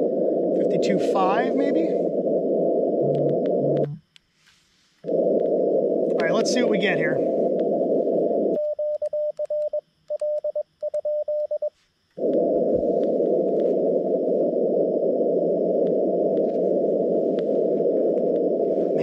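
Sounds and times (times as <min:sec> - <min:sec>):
radio receiver hiss: 0:00.0 - 0:08.7, 0:11.7 - 0:19.0.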